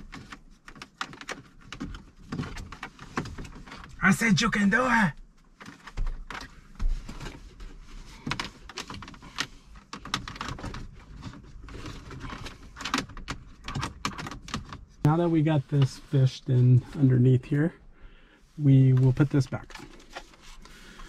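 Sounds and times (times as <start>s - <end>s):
plastic parts rustling and scraping: 0.0s - 4.0s, 5.5s - 17.2s, 18.8s - 21.0s.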